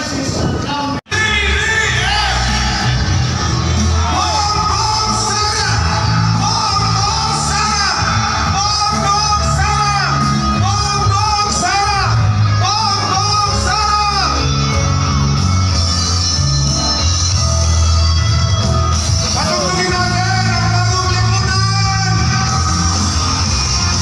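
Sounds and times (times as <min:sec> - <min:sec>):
loud music with singing: 0:00.0 - 0:24.0
heavy bass: 0:01.1 - 0:24.0.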